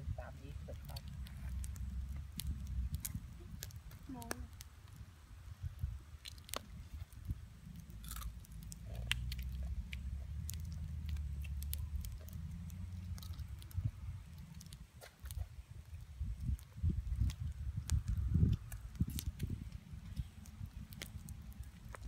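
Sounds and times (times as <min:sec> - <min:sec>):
low rumble: 0:00.0 - 0:22.0
chewing: 0:00.8 - 0:04.7, 0:06.2 - 0:22.0
crab shells cracking: 0:00.8 - 0:05.1, 0:06.1 - 0:22.0.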